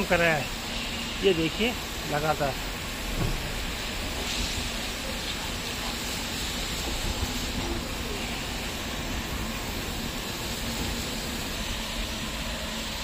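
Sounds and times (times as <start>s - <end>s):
water jets spraying on train: 0.0s - 13.0s.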